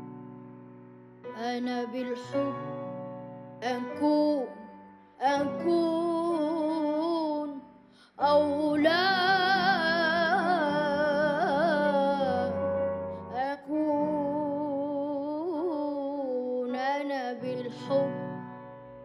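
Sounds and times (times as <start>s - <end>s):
soft steady accompaniment: 0.0s - 19.0s
person singing with vibrato: 1.3s - 2.8s, 3.6s - 18.5s.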